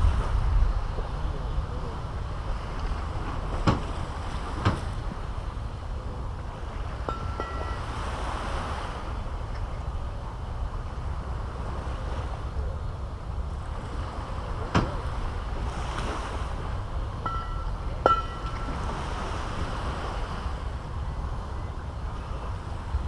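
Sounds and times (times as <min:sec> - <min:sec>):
surf washing on beach: 0:00.0 - 0:23.0
wind on microphone: 0:00.0 - 0:23.0.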